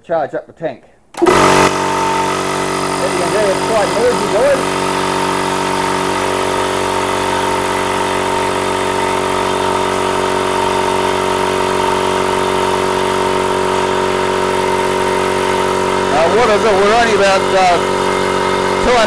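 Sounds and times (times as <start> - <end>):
air compressor running: 1.2 - 19.0.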